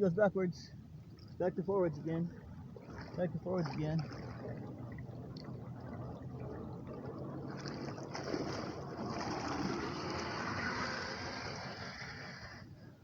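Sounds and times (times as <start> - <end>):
paddle wheels churning water: 1.4 - 13.0.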